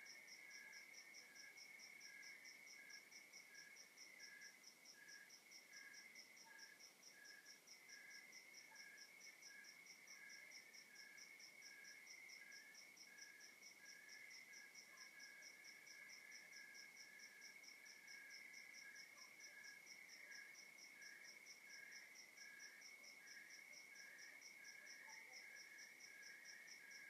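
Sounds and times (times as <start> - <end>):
crickets chirping in pulses: 0.0 - 27.0.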